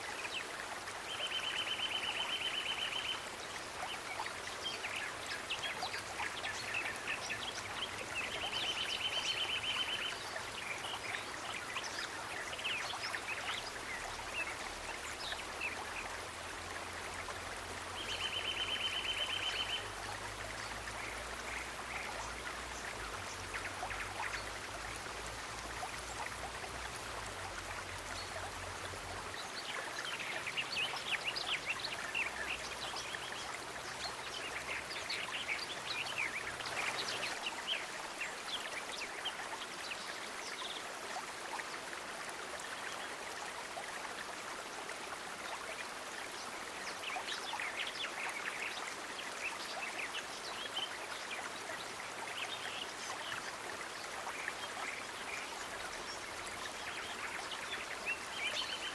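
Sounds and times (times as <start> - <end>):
rushing stream water: 0.0 - 58.9.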